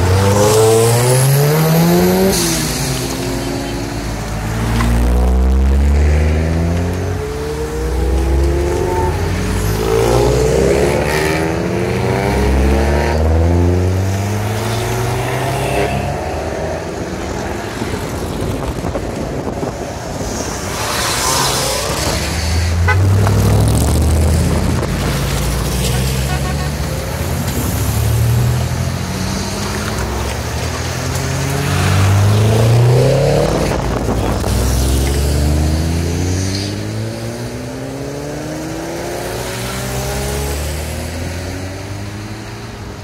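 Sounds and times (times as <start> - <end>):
cars accelerating past: 0.0 - 43.0.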